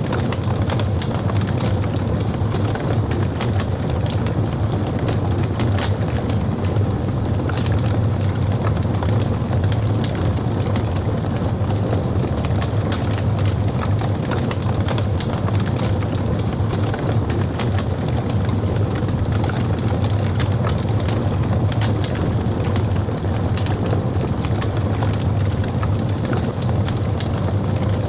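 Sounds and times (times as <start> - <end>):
fire crackling: 0.0 - 28.0.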